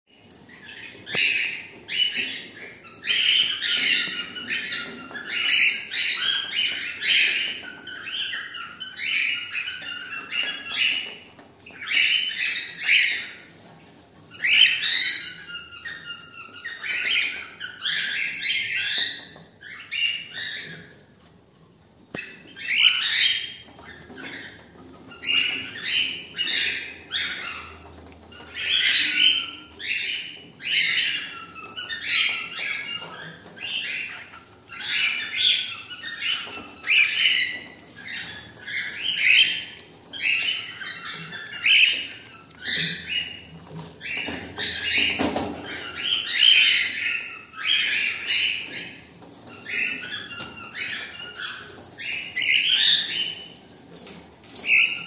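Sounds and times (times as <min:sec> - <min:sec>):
cockatiels chirping: 0:00.2 - 0:55.0.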